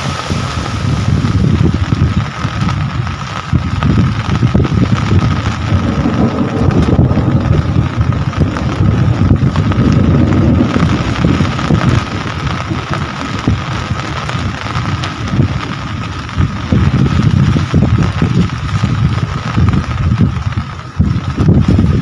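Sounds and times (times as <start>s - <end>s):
low rumble: 0.0s - 22.0s
rain falling steadily: 0.0s - 22.0s.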